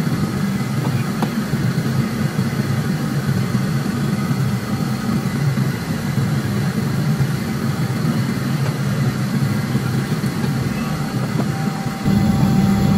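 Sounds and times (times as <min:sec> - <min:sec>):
gas burner and fan roaring: 0:00.0 - 0:12.9.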